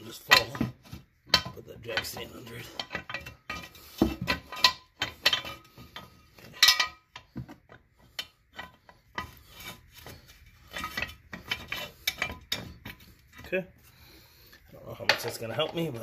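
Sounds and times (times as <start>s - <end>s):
metal jack stand clanking: 0.0s - 7.4s, 8.1s - 13.6s.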